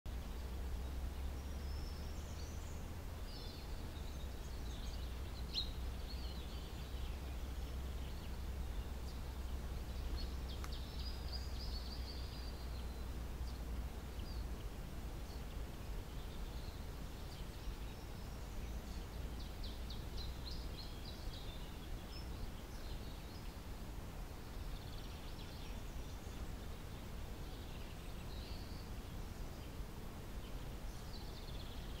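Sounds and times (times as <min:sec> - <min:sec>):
low steady rumble: 0:00.1 - 0:32.0
small birds chirping: 0:00.1 - 0:32.0.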